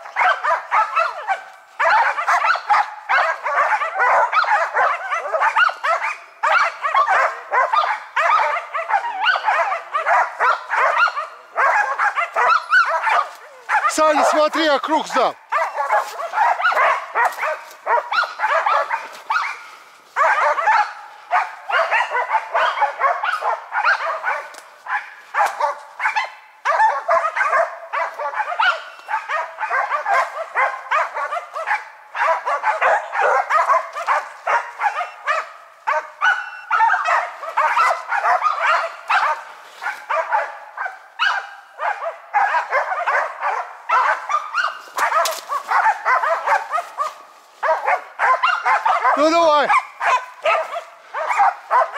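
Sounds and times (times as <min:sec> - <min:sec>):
dogs barking rapidly: 0:00.0 - 0:51.9.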